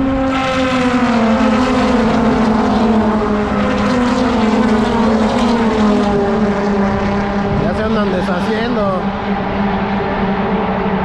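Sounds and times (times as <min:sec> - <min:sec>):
race cars passing: 0:00.0 - 0:11.0.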